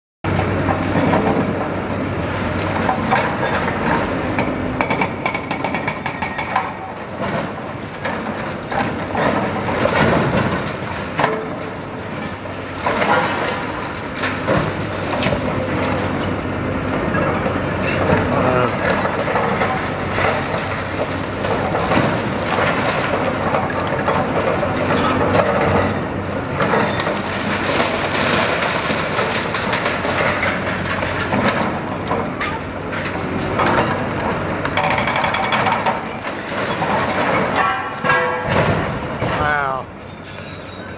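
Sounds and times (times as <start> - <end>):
excavator diesel engine: 0.3 - 40.0
masonry breaking and debris falling: 2.6 - 16.4, 17.8 - 40.8.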